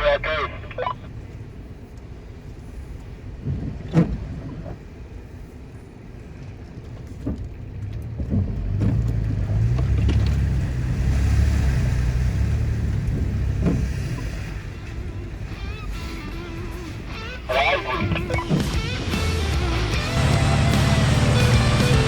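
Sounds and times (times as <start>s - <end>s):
truck engine drone: 0.0s - 22.0s.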